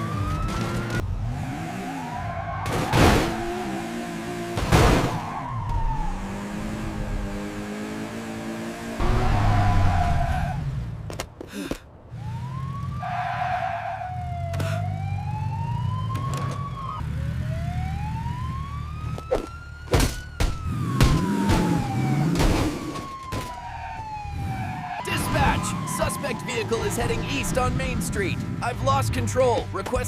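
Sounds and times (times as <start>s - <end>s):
police siren wailing: 0.0s - 10.9s, 12.1s - 29.0s.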